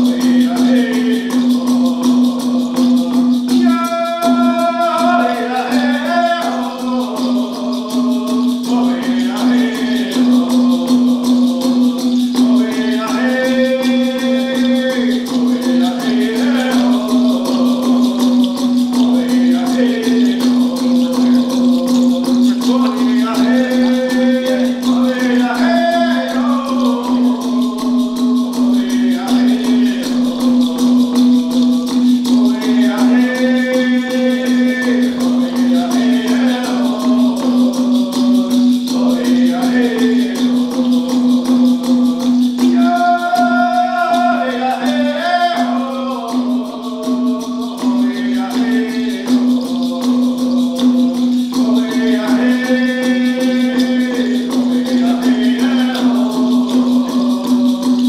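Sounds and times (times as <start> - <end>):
men singing: 0.0 - 58.0
rattle: 0.0 - 58.0
water drum beat: 0.0 - 58.0.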